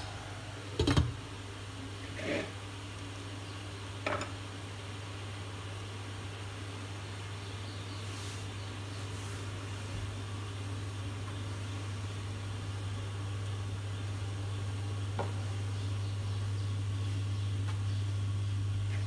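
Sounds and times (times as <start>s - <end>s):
electric cooktop hum: 0.0s - 19.0s.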